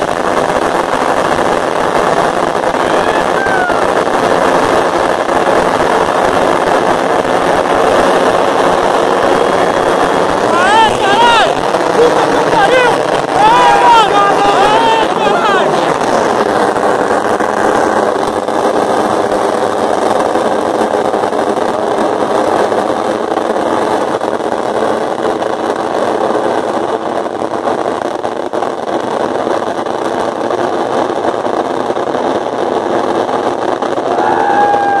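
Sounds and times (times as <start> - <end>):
continuous rumble: 0.0 - 35.0
fireworks crackling: 0.0 - 35.0.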